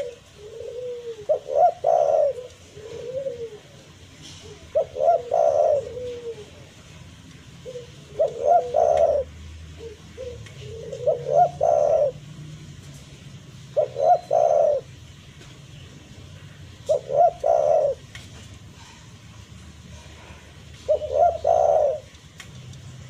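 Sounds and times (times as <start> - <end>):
dove cooing: 0.0 - 12.7, 13.5 - 15.4, 16.3 - 19.0, 19.9 - 22.3.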